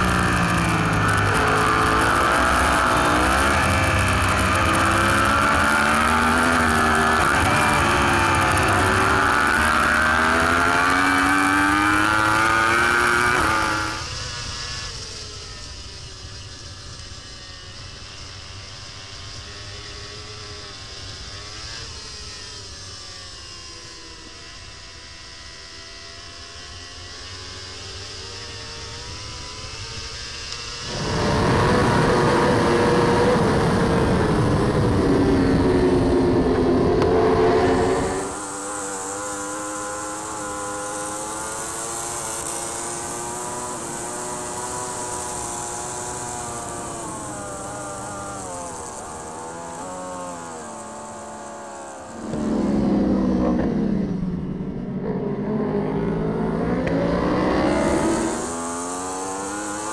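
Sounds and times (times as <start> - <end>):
quieter superbike engine: 0.0 - 59.9
superbike engine at race speed: 0.0 - 59.9.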